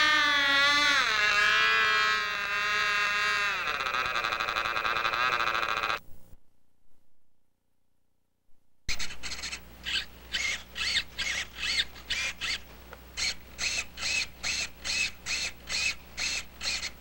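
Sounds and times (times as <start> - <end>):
servos whirring: 0.0 - 6.0, 8.9 - 17.0.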